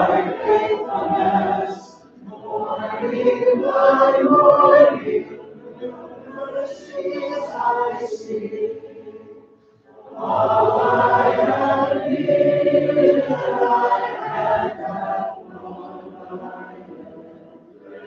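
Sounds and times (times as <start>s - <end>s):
group singing a hymn: 0.0s - 18.0s.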